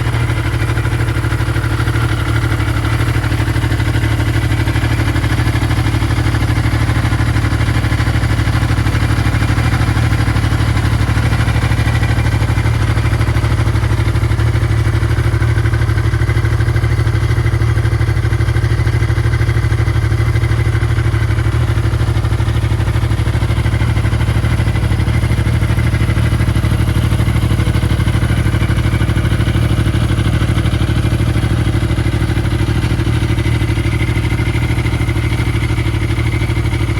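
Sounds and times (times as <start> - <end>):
engine idling: 0.0 - 36.9.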